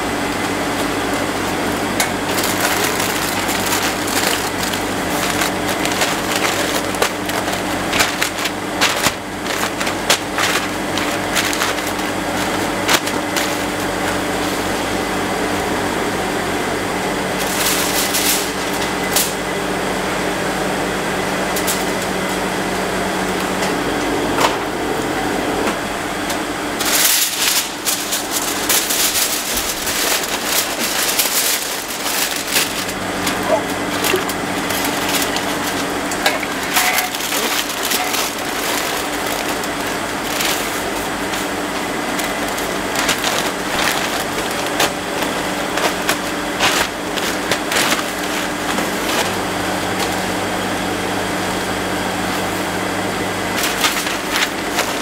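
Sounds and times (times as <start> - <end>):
steady low hum: 0.0 - 55.0
foil and paper crinkling: 0.4 - 15.1, 17.2 - 19.4, 26.8 - 55.0.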